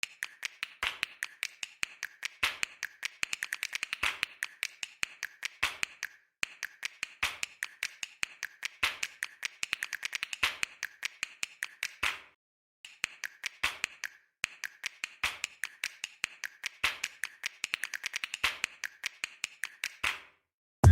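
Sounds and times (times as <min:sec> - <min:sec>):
sharp clicks and taps: 0:00.0 - 0:12.2, 0:12.9 - 0:20.2.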